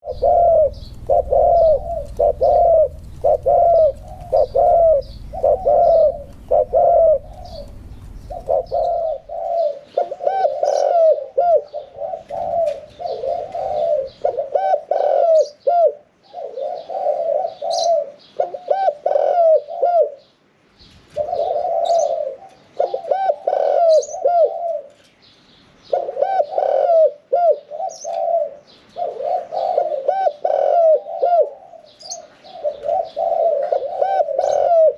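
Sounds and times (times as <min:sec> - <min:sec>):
dove cooing: 0:00.0 - 0:20.3, 0:21.1 - 0:25.0, 0:25.9 - 0:34.9.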